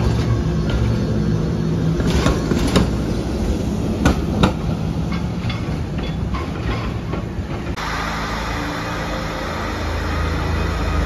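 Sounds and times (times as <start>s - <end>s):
low rumble of tram: 0.0s - 11.0s.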